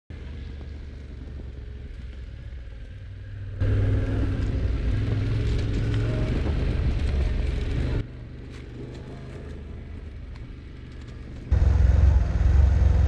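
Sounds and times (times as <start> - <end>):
motorcycle engine running: 0.1 - 13.0
steady low rumble: 0.1 - 13.0.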